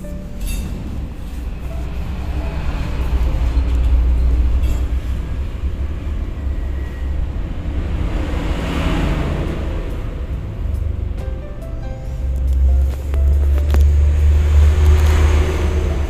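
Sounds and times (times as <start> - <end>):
low rumble of vehicle engines: 0.0 - 16.0.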